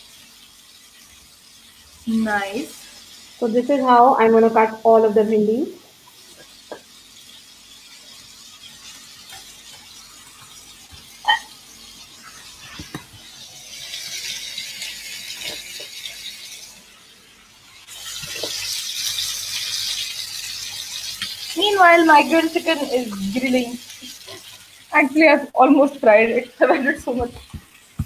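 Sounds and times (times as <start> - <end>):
chicken sizzling in oil: 0.0 - 28.0.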